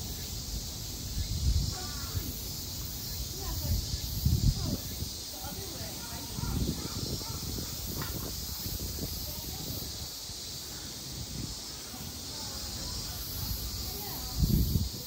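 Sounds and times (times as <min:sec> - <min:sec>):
steady high hiss: 0:00.0 - 0:15.0
faint distant voices: 0:01.6 - 0:15.0.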